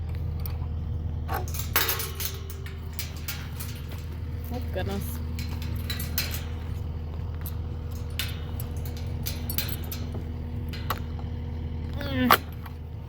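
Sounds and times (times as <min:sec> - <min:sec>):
light clicks and knocks: 0:00.0 - 0:12.8
low machine hum: 0:00.0 - 0:13.0.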